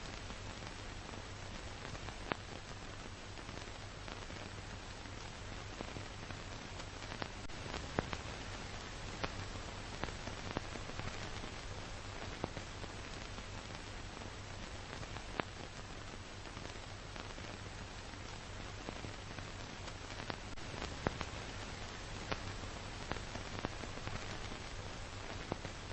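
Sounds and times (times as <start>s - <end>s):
film soundtrack surface noise: 0.0s - 25.9s.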